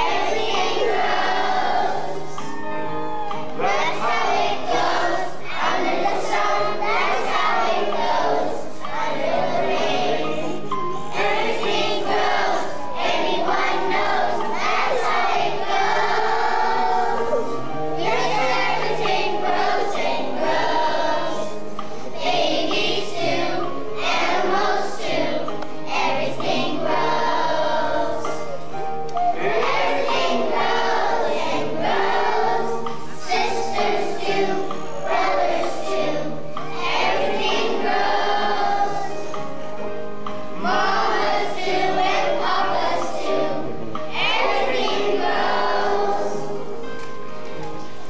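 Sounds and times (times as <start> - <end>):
children singing together: 0.0 - 48.0.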